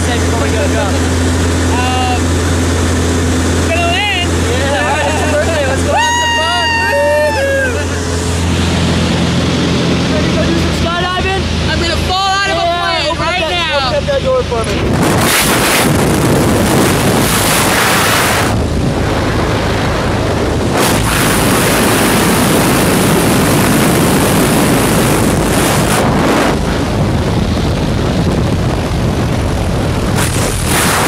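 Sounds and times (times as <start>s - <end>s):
propeller plane engine drone: 0.0s - 31.0s
wind buffeting microphone: 0.0s - 31.0s
wind rushing through open door: 1.1s - 31.0s.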